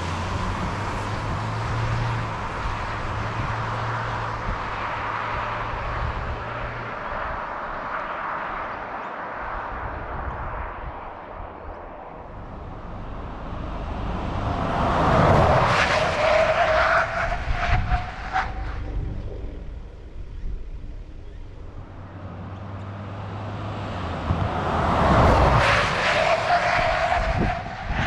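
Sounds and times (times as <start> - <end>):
car approaching at speed: 0.0 - 28.0.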